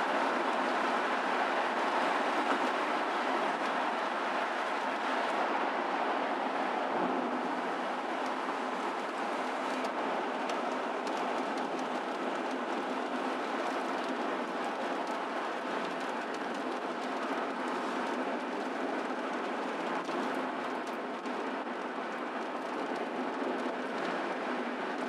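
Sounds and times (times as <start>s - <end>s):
car road and tyre noise: 0.0s - 25.0s.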